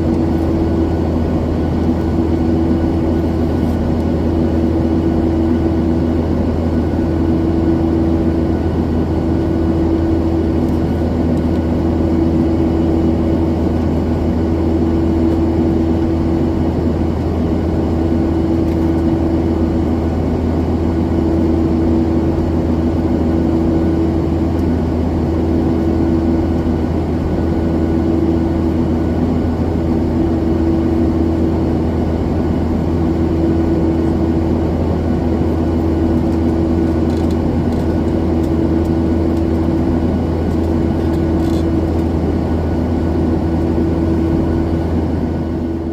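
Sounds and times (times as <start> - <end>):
jet engine and airflow rush: 0.0 - 45.9
low droning hum: 0.0 - 45.9.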